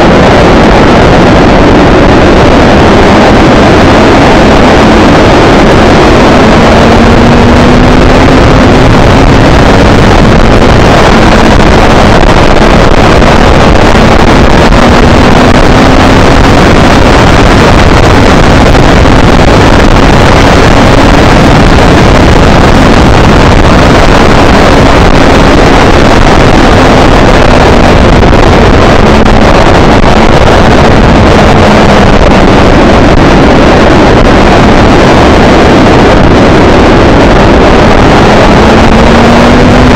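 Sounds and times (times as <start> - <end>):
motorcycle engine revving: 0.0 - 32.4, 37.0 - 39.9
wind noise on microphone: 0.0 - 39.9.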